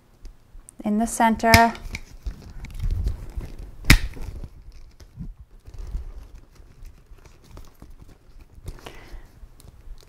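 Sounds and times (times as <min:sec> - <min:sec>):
faint rustling: 0:01.8 - 0:10.0.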